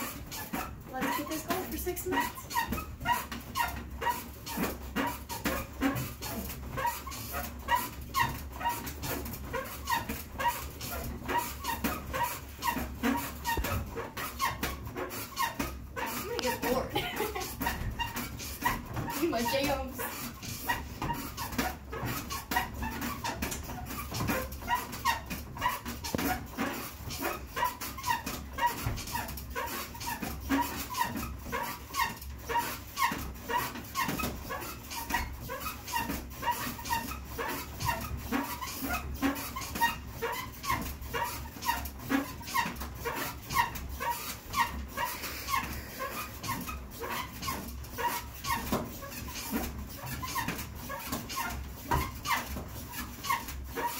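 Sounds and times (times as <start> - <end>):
elliptical trainer squeaking: 0.0 - 53.9.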